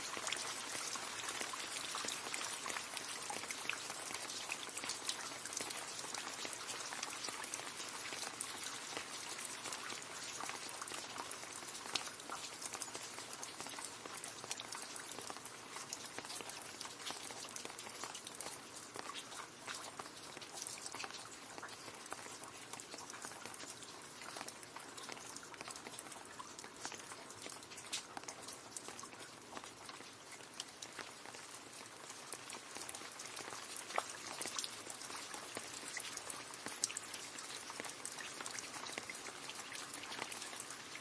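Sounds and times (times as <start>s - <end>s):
rain falling into a puddle: 0.0s - 41.0s.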